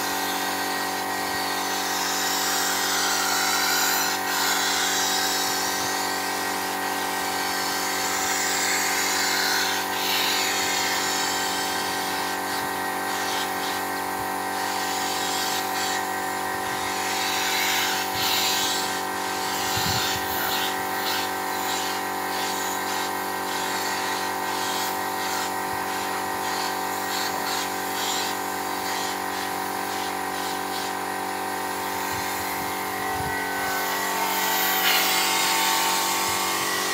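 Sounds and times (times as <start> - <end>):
spray gun hissing bursts: 0.0 - 36.9
steady machine hum: 0.0 - 36.9.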